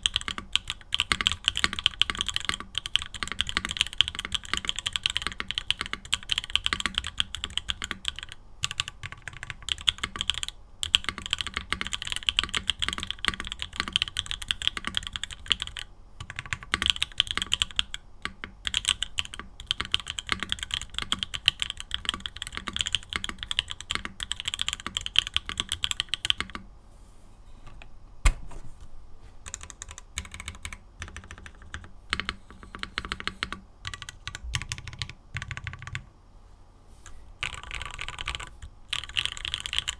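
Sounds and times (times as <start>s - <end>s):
mechanical keyboard typing: 0.0s - 26.6s, 29.4s - 36.0s, 37.4s - 39.9s.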